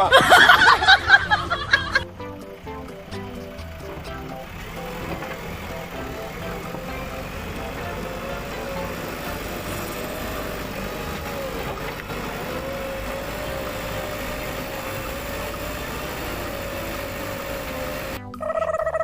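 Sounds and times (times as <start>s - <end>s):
small motor whining: 2.8s - 18.2s.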